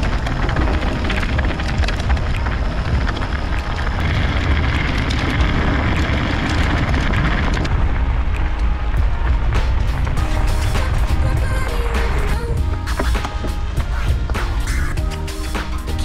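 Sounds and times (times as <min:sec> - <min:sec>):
tyres rolling on snow and gravel: 0:00.0 - 0:16.0
wind buffeting microphone: 0:00.0 - 0:16.0.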